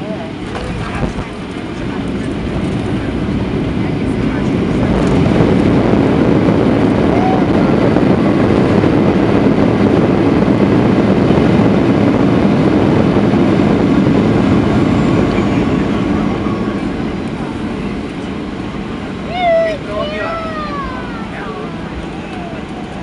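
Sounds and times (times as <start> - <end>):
jet engines and runway roll rumble: 0.0 - 23.0.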